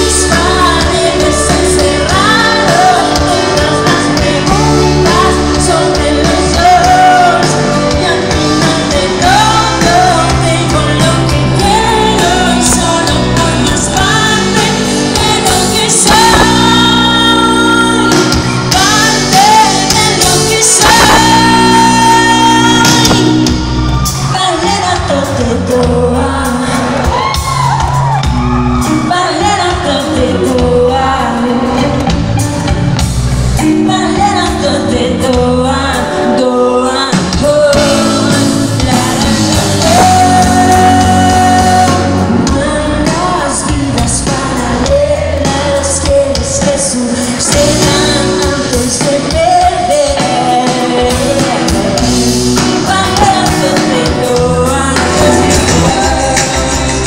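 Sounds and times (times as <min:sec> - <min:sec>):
woman singing: 0:00.0 - 0:27.8, 0:28.7 - 0:32.7, 0:33.6 - 0:57.0
live pop band playing: 0:00.0 - 0:57.0.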